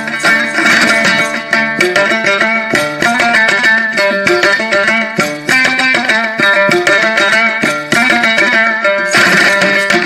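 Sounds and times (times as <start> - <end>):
lute strumming a melody: 0.0 - 10.0.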